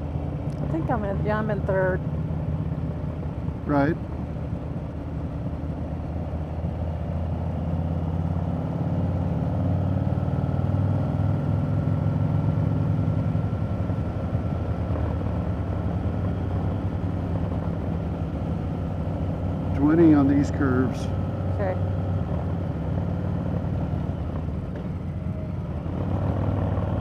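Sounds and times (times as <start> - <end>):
motorcycle engine rumbling: 0.0 - 9.2, 11.0 - 27.0.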